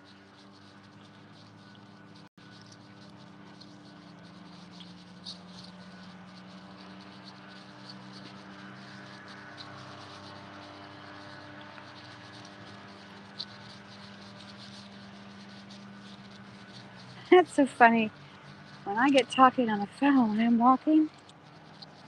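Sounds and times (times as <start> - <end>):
light ticks: 0.1 - 22.0.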